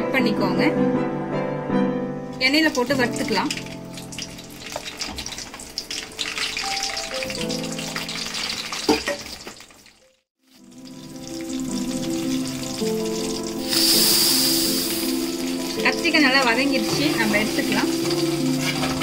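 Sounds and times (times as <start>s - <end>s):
background music: 0.0s - 8.9s, 10.6s - 19.0s
vegetables sizzling in hot oil: 2.4s - 19.0s.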